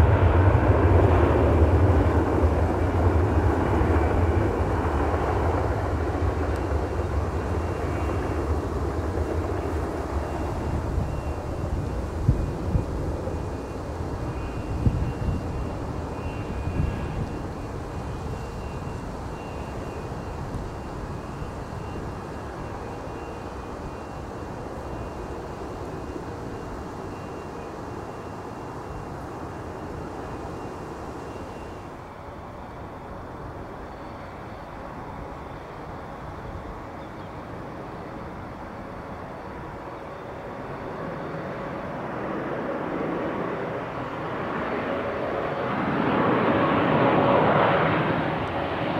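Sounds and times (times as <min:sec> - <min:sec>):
distant jet engine whine: 0:00.0 - 0:48.9
quieter jet engine sound: 0:00.0 - 0:48.9.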